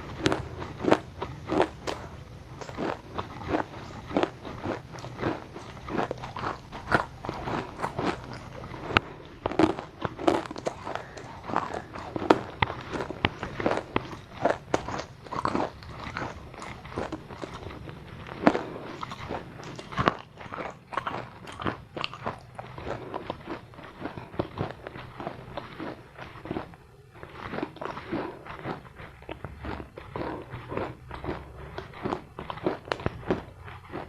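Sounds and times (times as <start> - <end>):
person chewing crunchy food: 0.0 - 34.0.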